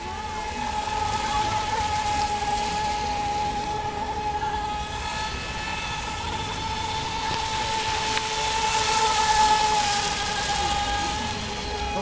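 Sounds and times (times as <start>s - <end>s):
high-pitched motor whine: 0.0s - 12.0s
hull and spray hissing on water: 0.0s - 12.0s.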